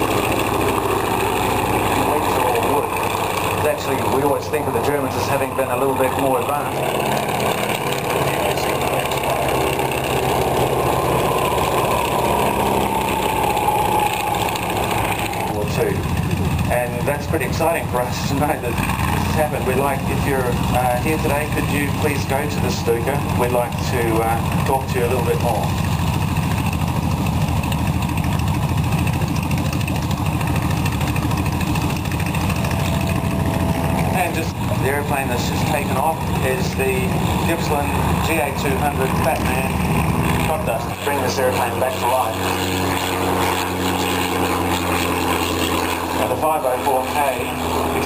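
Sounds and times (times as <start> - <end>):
airplane engine drone overhead: 0.0 - 48.0.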